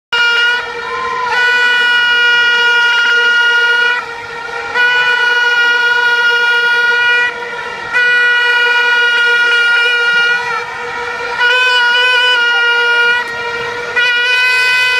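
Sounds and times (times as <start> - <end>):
party horn blasts: 0.1 - 14.9.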